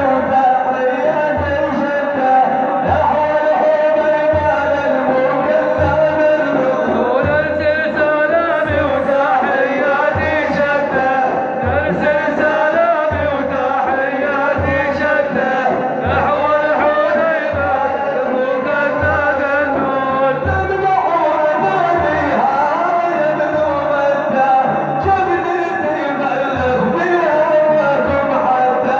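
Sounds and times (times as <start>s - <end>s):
low drum beat: 0.0s - 28.9s
man singing a religious chant: 0.0s - 28.9s.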